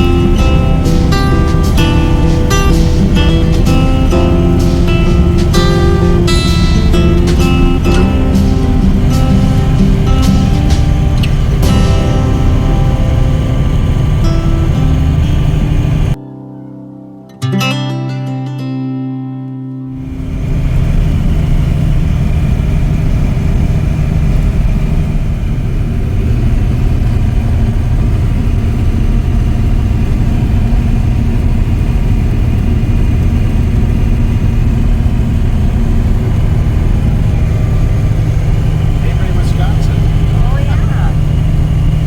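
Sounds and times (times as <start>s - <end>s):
diesel truck engine running: 0.0s - 16.2s, 20.0s - 42.0s
guitar music: 0.0s - 25.4s, 26.1s - 42.0s.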